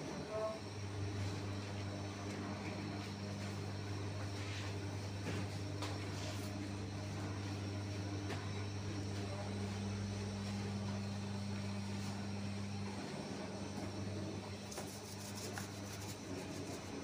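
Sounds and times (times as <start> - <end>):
higher machine hum: 0.0 - 17.0
low machine hum: 0.0 - 17.0.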